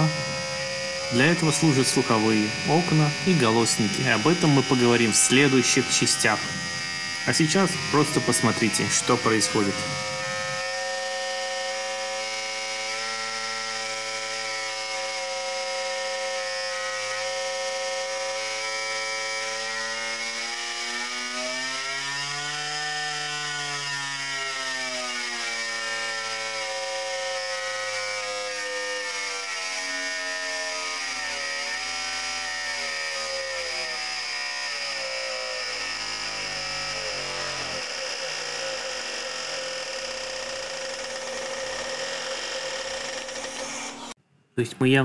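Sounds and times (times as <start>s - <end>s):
test machine buzzing hum: 0.0s - 44.2s.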